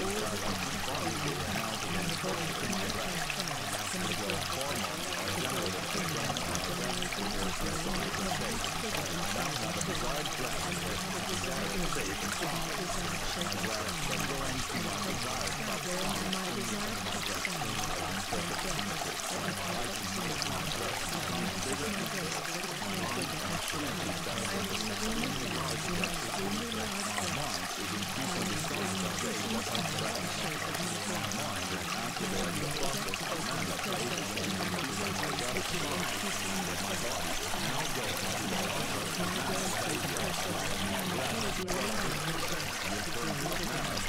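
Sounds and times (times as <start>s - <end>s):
running water: 0.0s - 44.0s.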